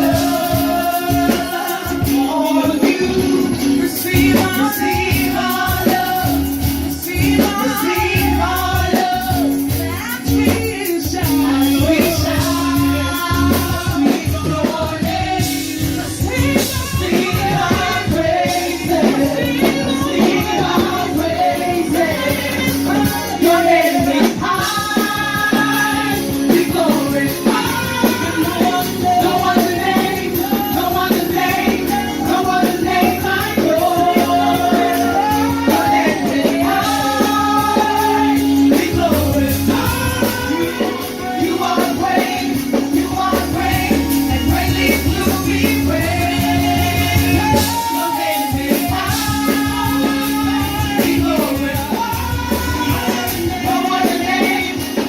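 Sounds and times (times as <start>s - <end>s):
worship band with vocals: 0.0s - 55.0s.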